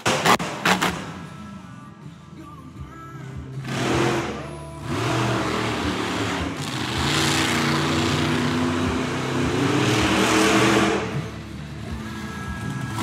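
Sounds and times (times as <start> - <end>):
truck engine revving: 0.0 - 1.4, 3.5 - 13.0.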